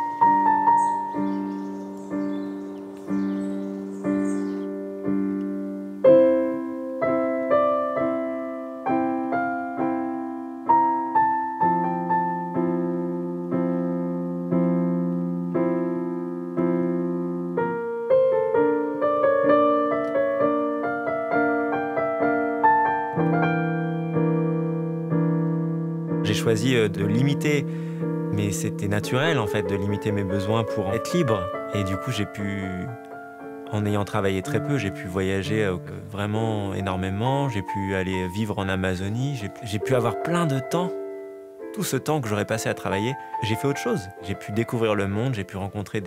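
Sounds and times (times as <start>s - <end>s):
slow piano notes and chords: 0.0s - 46.0s.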